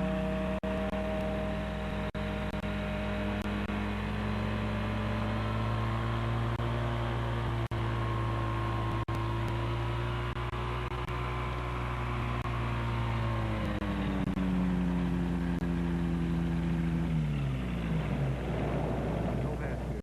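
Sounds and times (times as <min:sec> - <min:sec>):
aircraft engine running: 0:00.0 - 0:20.0.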